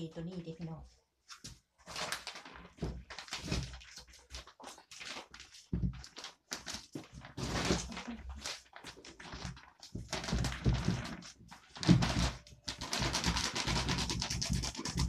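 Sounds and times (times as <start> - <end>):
plastic bag crinkling: 1.8 - 15.0.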